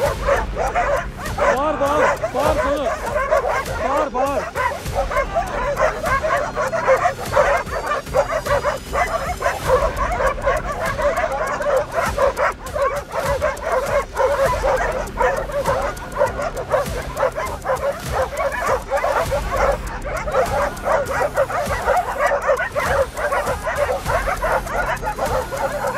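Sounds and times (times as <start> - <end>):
dogs barking and yelping: 0.0 - 25.9.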